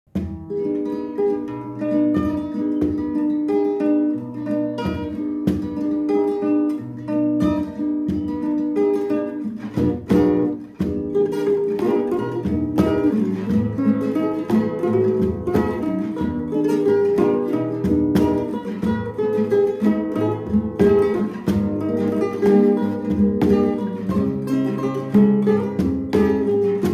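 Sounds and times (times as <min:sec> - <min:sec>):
acoustic guitar playing: 0:00.1 - 0:26.9.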